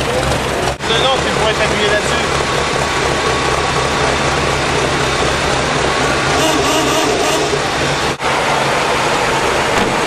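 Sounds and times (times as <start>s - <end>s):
car engines idling: 0.0s - 10.0s
loud steady rushing noise: 0.8s - 10.0s.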